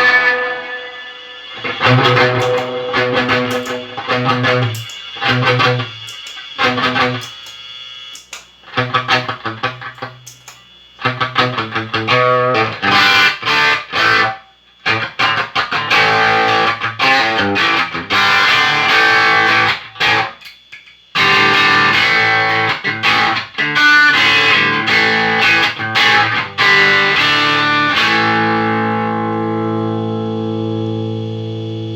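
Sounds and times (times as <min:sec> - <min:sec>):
distorted electric guitar: 0:00.0 - 0:31.9.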